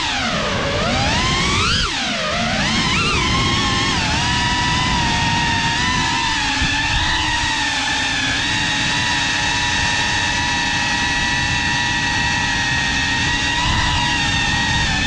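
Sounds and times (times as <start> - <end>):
drone motors whining: 0.0 - 15.0
low rush of propellers: 0.0 - 15.0.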